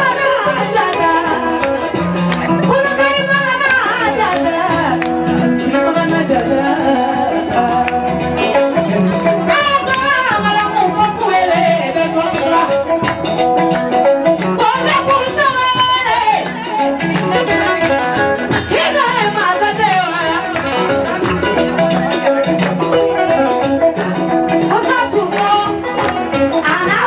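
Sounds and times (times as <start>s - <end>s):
woman singing into microphone: 0.0s - 13.2s, 14.5s - 23.8s, 24.5s - 27.0s
loud amplified music with beat: 0.0s - 27.0s.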